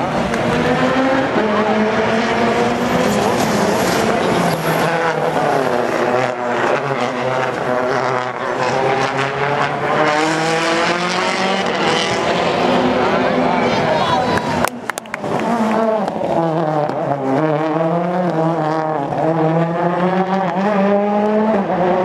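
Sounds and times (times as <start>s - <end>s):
rally car engine revving hard: 0.0s - 13.9s, 15.2s - 22.0s.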